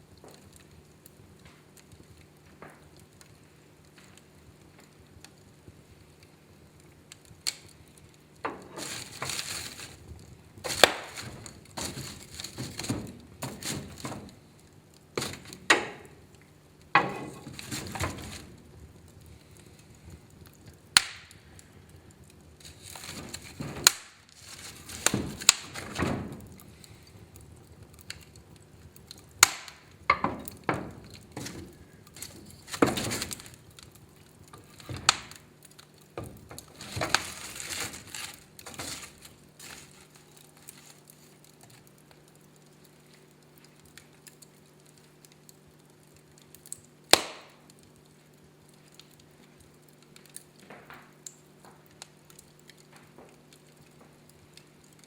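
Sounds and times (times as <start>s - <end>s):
fire pops and cracks: 0.0s - 55.0s
wood fire crackling: 0.0s - 55.0s.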